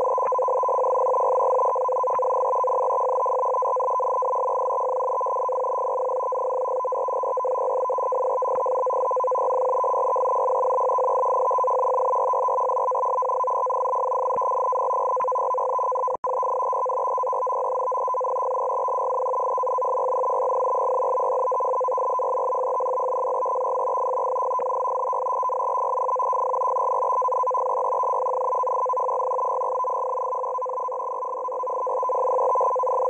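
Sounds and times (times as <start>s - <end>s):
two steady radio tones: 0.0s - 33.0s.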